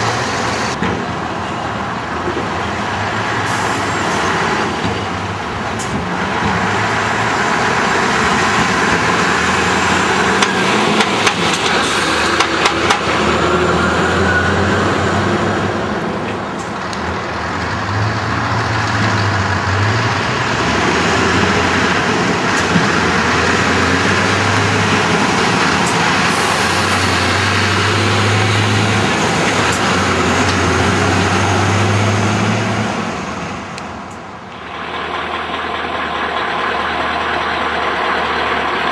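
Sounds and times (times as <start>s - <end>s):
diesel lorry engines pulling away: 0.0s - 38.9s.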